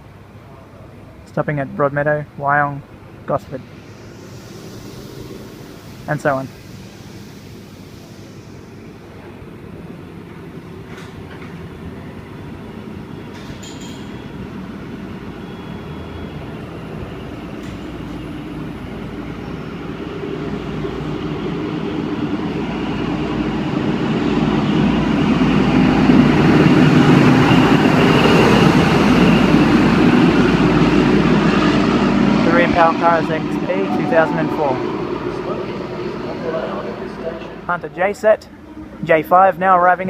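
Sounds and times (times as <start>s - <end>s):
diesel train engine: 0.0s - 40.0s.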